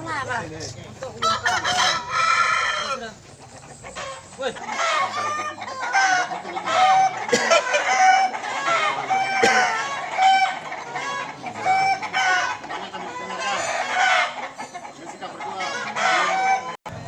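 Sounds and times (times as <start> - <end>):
roosters crowing and clucking: 0.0 - 17.0.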